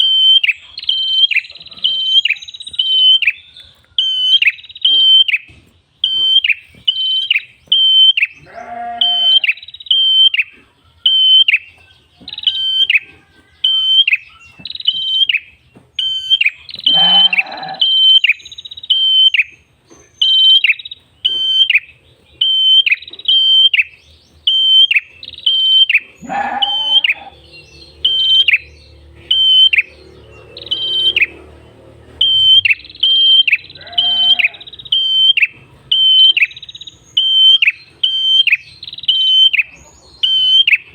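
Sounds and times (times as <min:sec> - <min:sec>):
lower rough bird calls: 0:00.0 - 0:10.5, 0:16.0 - 0:40.9
bird chirping sharply: 0:00.0 - 0:40.9.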